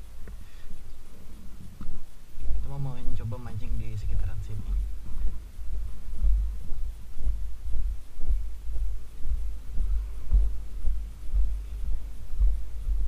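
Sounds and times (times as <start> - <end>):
footstep thumps on microphone: 1.7 - 13.0.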